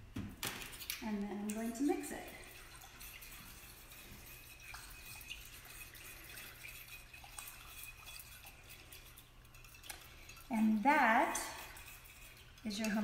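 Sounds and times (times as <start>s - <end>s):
liquid swishing: 0.7s - 13.0s.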